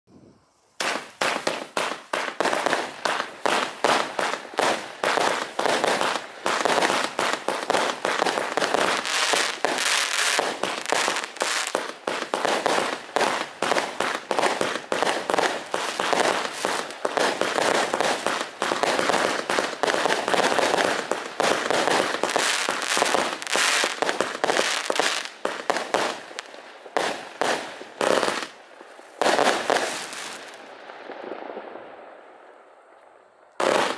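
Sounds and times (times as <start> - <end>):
firework barrage: 0.1 - 33.9.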